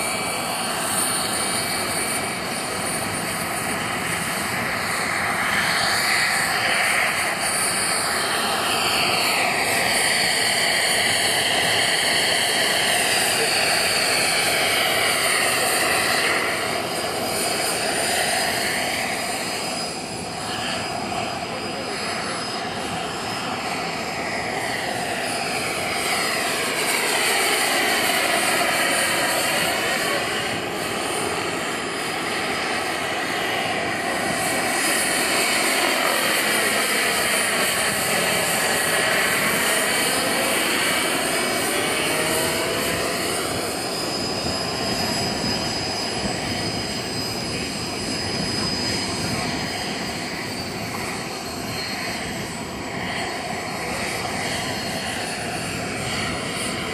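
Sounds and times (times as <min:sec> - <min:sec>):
helicopter rotor noise: 0:00.0 - 0:56.9
model helicopter turbine whine: 0:00.0 - 0:56.9.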